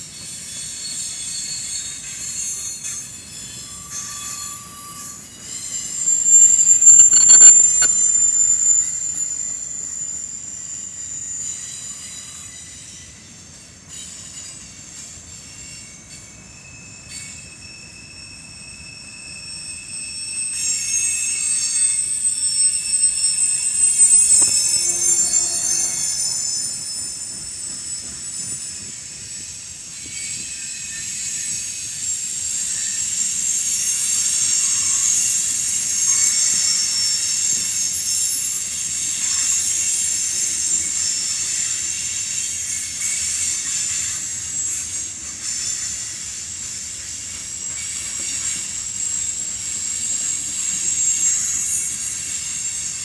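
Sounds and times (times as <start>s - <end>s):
train wheels squealing on rails: 0.0s - 53.0s.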